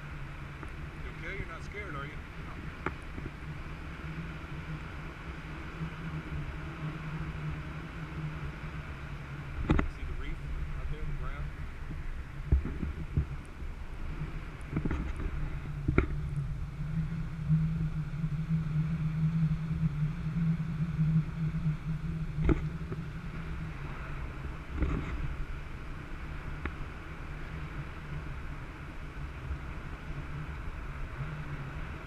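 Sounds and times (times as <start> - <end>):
motorboat engine running: 0.0 - 32.0.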